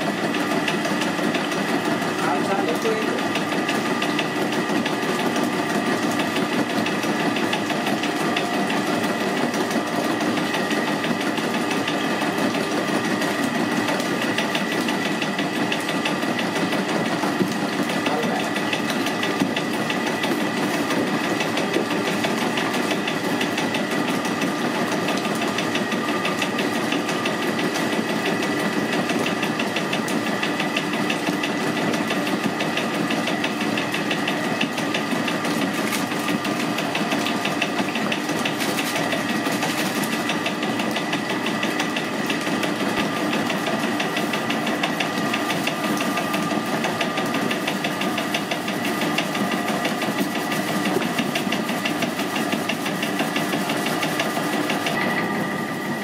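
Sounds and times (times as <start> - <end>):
electric mixer whipping cream: 0.0 - 56.0.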